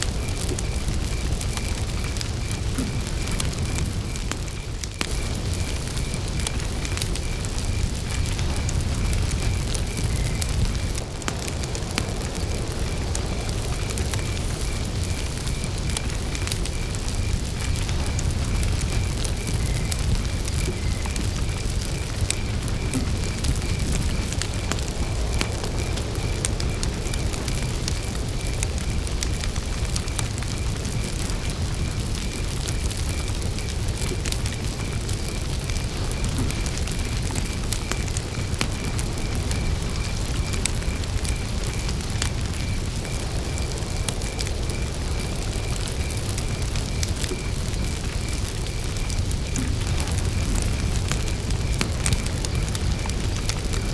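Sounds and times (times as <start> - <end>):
campfire crackling and popping: 0.0 - 53.9
cricket chirping: 0.0 - 53.9.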